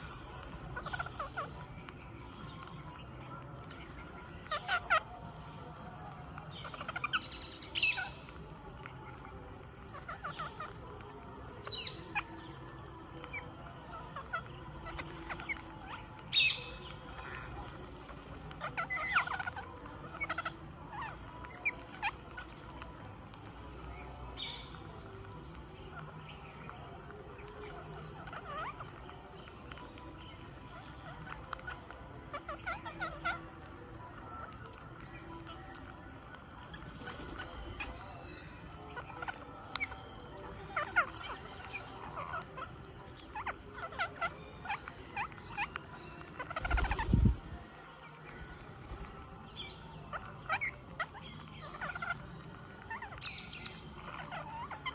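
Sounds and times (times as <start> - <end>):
parakeets squawking and chirping: 0.0 - 54.9.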